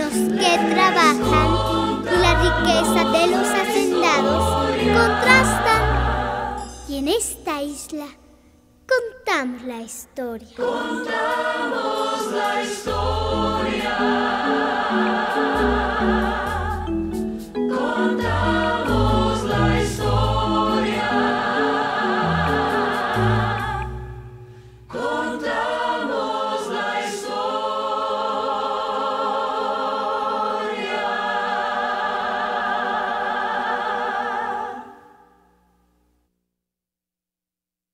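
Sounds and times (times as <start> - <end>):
choir singing: 0.0 - 7.2, 10.5 - 24.3, 24.9 - 35.4.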